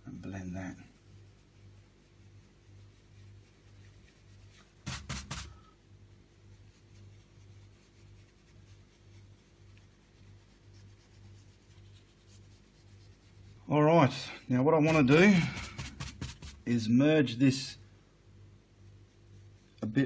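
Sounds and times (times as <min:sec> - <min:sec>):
brush scrubbing on canvas: 0:00.6 - 0:13.7, 0:14.8 - 0:16.8, 0:18.8 - 0:20.0.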